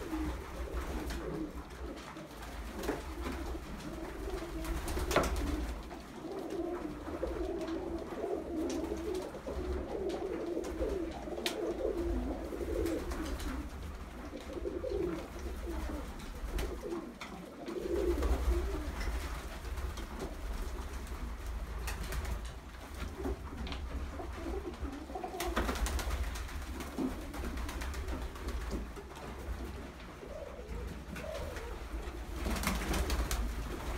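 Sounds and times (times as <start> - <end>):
pigeons cooing: 0.0 - 19.2, 23.1 - 33.9.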